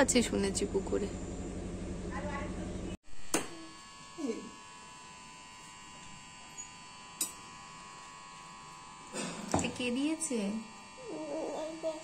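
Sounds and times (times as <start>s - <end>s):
electrical buzz: 0.0s - 12.0s.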